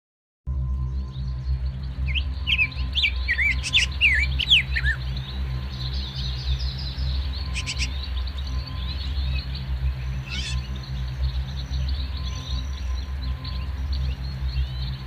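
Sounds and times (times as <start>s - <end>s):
steady low drone: 0.5s - 15.0s
small songbird chirping: 0.7s - 15.0s.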